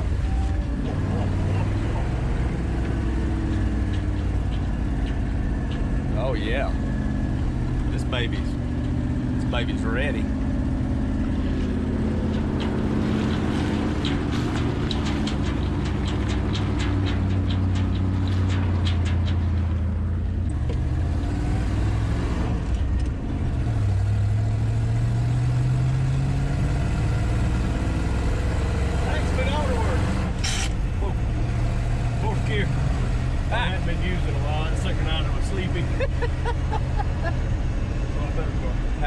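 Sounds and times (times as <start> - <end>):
truck engine running: 0.0 - 39.0.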